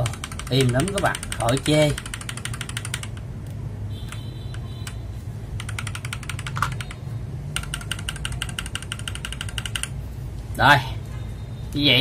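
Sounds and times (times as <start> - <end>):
mechanical keyboard typing: 0.0 - 10.0.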